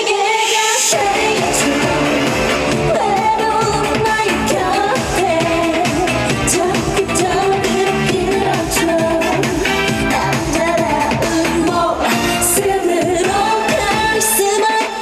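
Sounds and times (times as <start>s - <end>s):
person singing: 0.0s - 15.0s
pop backing music with beat: 0.0s - 15.0s.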